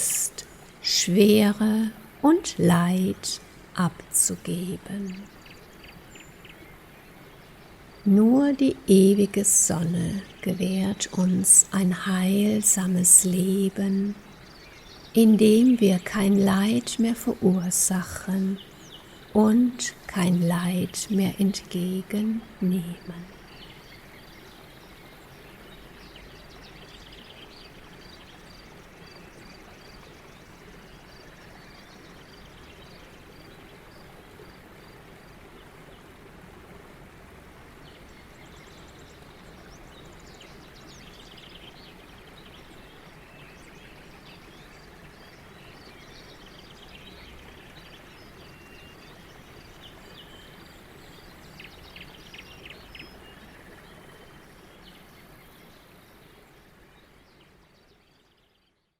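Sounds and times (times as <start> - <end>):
background hiss: 0.0 - 58.9
wild birds chirping: 0.0 - 58.9.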